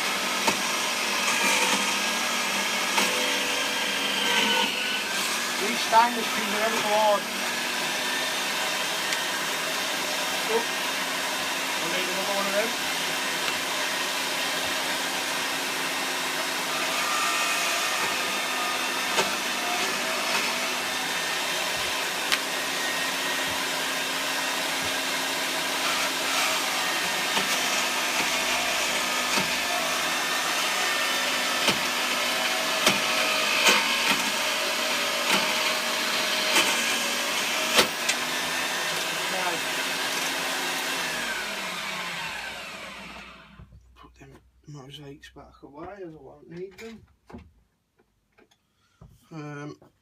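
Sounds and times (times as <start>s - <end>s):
electric motor whirring: 0.4s - 43.6s.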